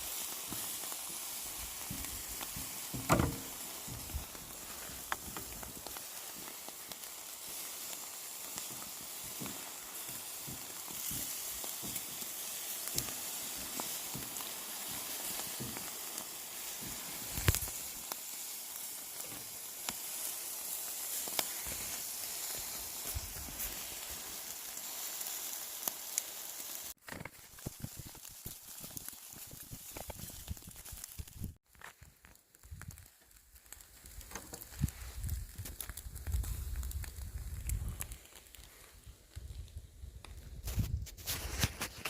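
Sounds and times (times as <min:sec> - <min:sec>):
meat sizzling on grill: 0:00.0 - 0:31.6, 0:32.6 - 0:39.7
small crackles: 0:00.0 - 0:42.0.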